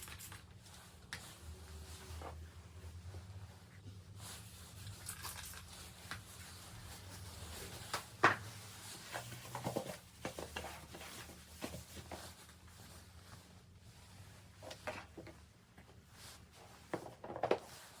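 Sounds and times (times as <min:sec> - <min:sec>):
blankets rustling in plastic box: 0:00.0 - 0:18.0.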